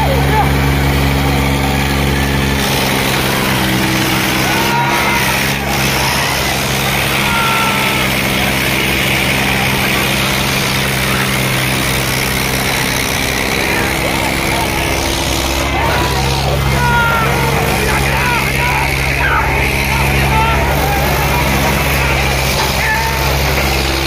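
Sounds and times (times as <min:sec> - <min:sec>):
crowd shouting: 0:00.0 - 0:24.0
tractor diesel engines revving: 0:00.0 - 0:24.0.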